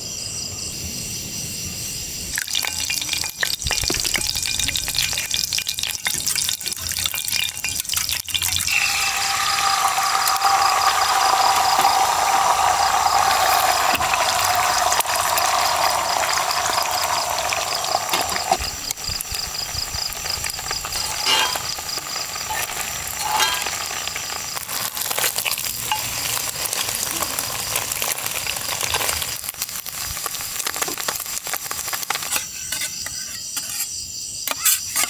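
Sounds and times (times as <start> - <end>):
water pouring into a container: 2.3 - 32.0.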